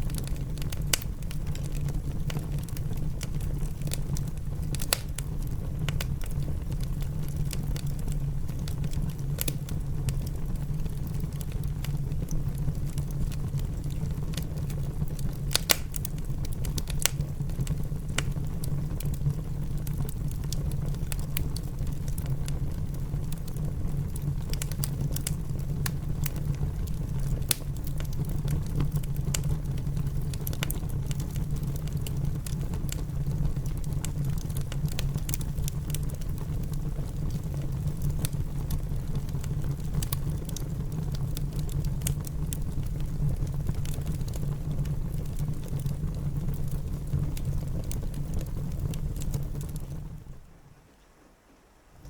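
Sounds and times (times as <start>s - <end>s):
wood fire crackling and popping: 0.0s - 50.5s
rain pattering: 0.0s - 52.0s.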